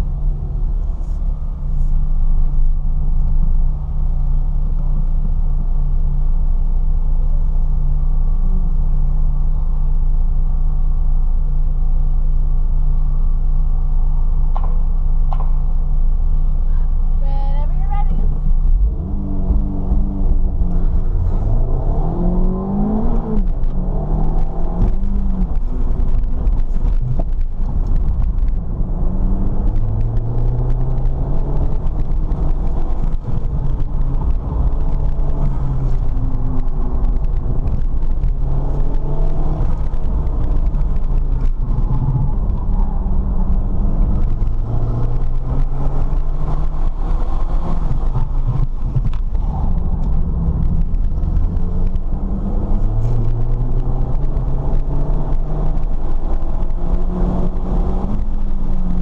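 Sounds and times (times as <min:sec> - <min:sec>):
car engine accelerating: 0:00.0 - 0:59.0
road and drivetrain rumble: 0:00.0 - 0:59.0.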